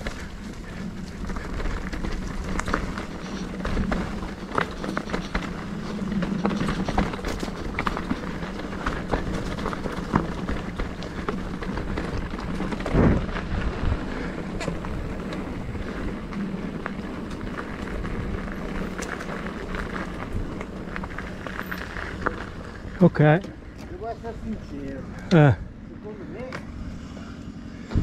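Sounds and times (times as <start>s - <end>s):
wind buffeting microphone: 0.0s - 23.0s
bike knocks and rattles: 0.0s - 24.9s
tyre rumble: 0.0s - 25.8s.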